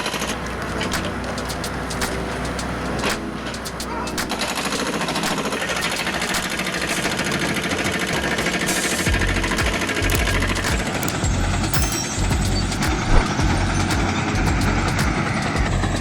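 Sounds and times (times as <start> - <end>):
excavator mechanical clatter: 0.0 - 16.0.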